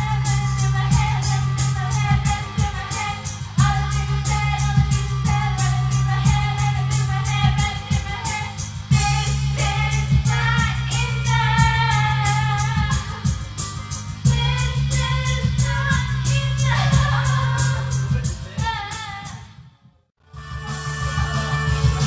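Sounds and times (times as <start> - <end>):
woman singing into microphone: 0.0 - 13.6, 14.2 - 19.6
pop backing track with heavy bass: 0.0 - 19.6, 20.2 - 22.0.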